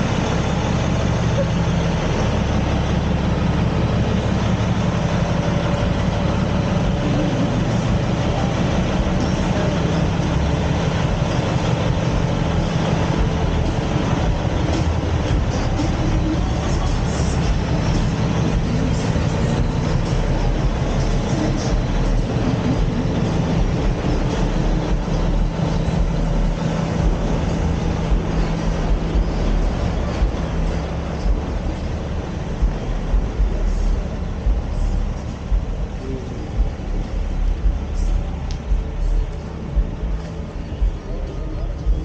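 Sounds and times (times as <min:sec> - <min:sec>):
truck diesel engine droning: 0:00.0 - 0:42.0.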